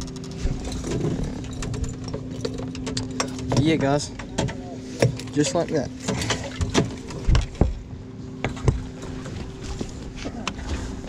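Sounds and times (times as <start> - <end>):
knocks and thumps on boat deck: 0.0 - 11.0
low hum: 0.0 - 11.0.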